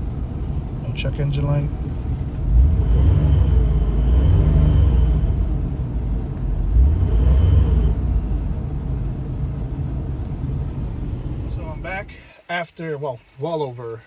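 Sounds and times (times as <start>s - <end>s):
van engine rumbling: 0.0s - 14.0s.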